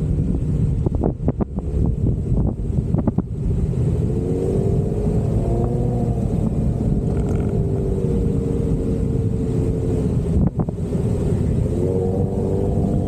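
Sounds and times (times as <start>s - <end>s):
engine rumbling under load: 0.0s - 13.0s.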